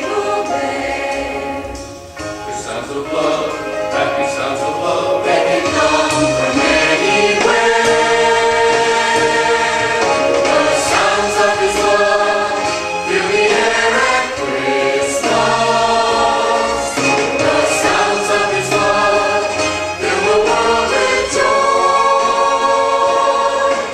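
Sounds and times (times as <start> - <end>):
choir singing: 0.0 - 23.9.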